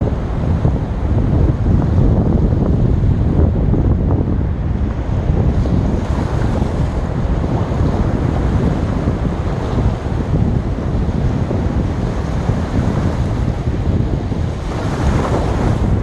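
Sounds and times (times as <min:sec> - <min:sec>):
sea waves breaking on shore: 0:00.0 - 0:16.0
wind buffeting microphone: 0:00.0 - 0:16.0.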